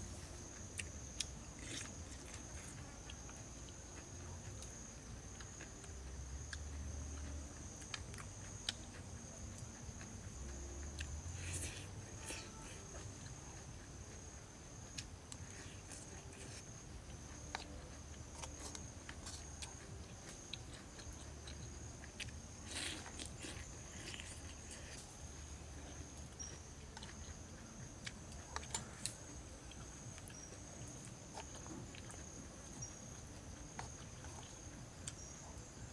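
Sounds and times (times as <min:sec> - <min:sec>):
insects droning: 0:00.0 - 0:35.9.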